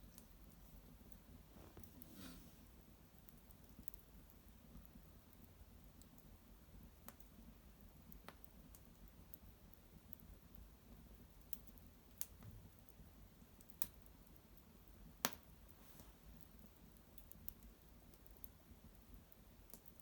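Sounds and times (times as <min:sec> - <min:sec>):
brushwood fire crackling: 0:00.0 - 0:20.0.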